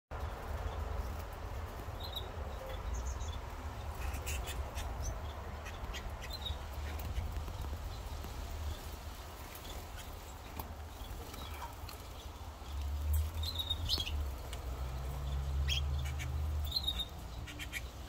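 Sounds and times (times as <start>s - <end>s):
canaries chirping: 0.2s - 18.0s.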